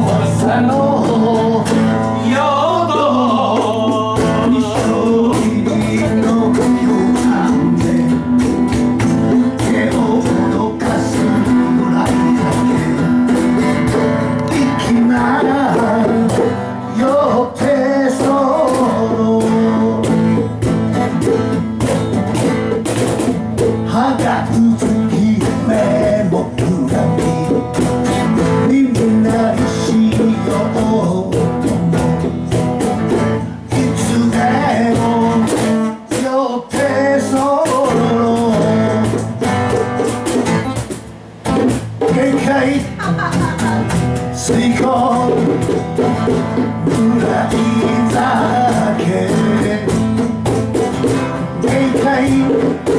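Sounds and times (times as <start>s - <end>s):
man singing: 0.0s - 21.5s, 23.8s - 39.7s, 42.0s - 52.9s
acoustic guitar strumming: 0.0s - 52.9s.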